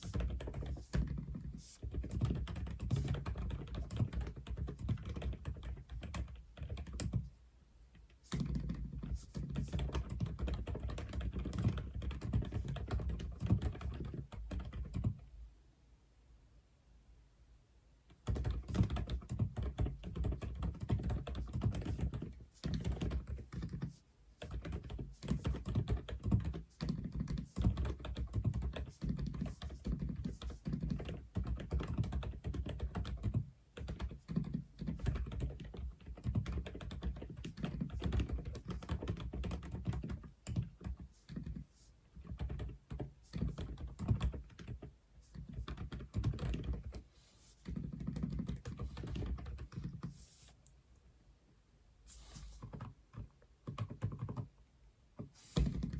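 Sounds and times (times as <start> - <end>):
mechanical keyboard typing: 0.0 - 7.3, 8.3 - 15.2, 18.2 - 41.6, 42.2 - 47.0, 47.6 - 50.1, 52.6 - 54.5.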